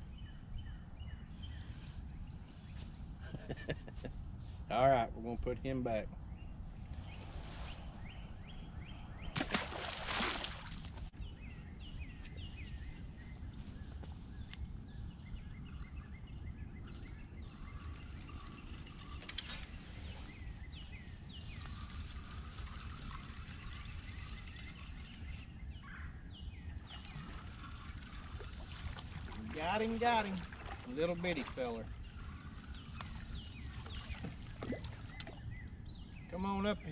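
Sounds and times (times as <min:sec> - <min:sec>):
birds chirping: 0:00.0 - 0:36.9
wind and river rumble: 0:00.0 - 0:36.9.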